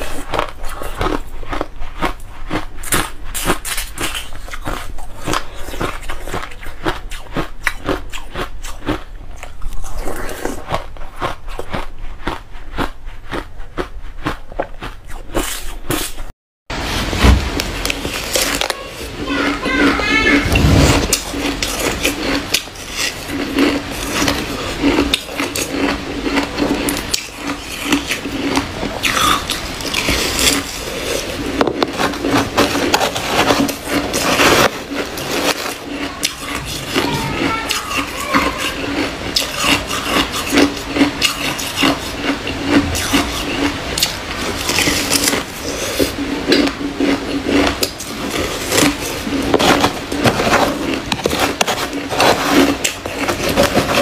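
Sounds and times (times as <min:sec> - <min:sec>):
ice being chewed: 0:00.0 - 0:16.3, 0:17.6 - 0:54.0.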